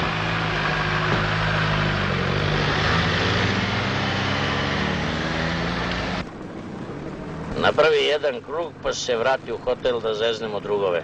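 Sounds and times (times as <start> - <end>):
car engine driving off: 0.0 - 9.8.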